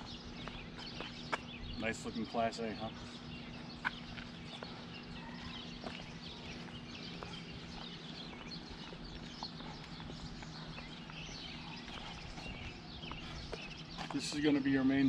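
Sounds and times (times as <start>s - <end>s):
birds chirping: 0.0s - 15.0s
footsteps on asphalt: 0.0s - 15.0s
steady low hum: 0.0s - 15.0s.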